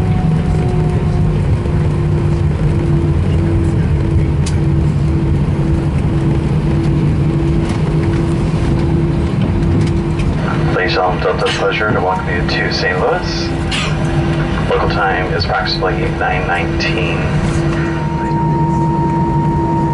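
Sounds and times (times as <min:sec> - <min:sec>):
airplane cabin rumble: 0:00.0 - 0:19.9
jet engine hum: 0:00.0 - 0:19.9.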